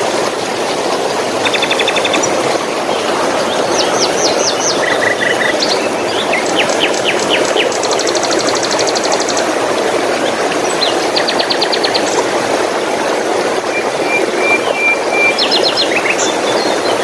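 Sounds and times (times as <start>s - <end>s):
flowing water: 0.0s - 17.0s
songbirds singing: 1.4s - 12.4s, 13.7s - 17.0s.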